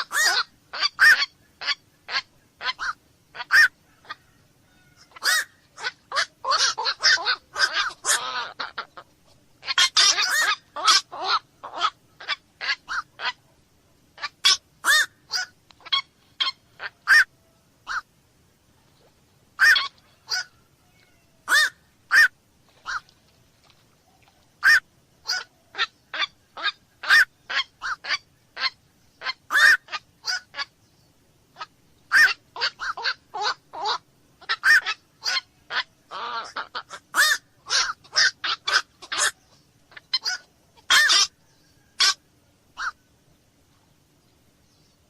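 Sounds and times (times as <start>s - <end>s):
herons calling: 0.0s - 18.1s, 19.6s - 43.1s.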